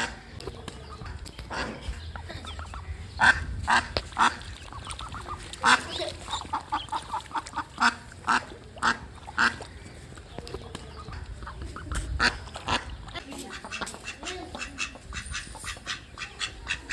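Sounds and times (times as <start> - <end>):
duck quacking: 0.9 - 9.7, 11.0 - 16.9.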